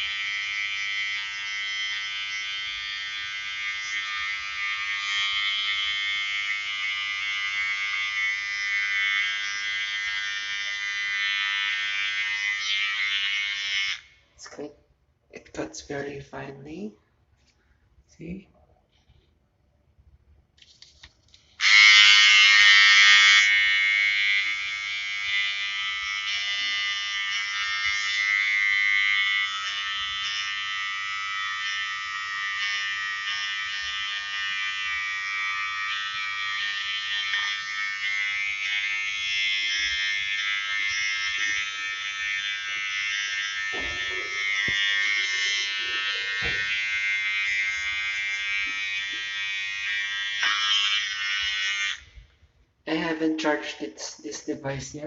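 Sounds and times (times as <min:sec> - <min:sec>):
beard trimmer buzzing: 0:00.0 - 0:14.2, 0:21.6 - 0:52.4.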